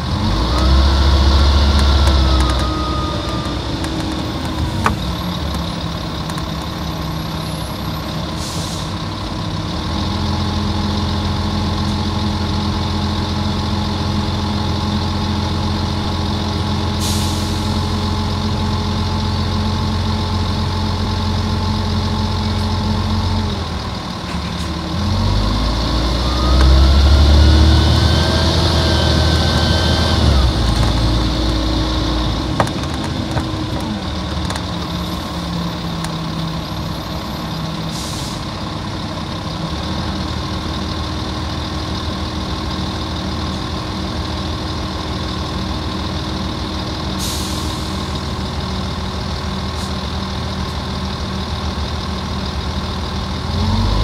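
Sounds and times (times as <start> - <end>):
diesel bus engine pulling away: 0.0 - 54.0.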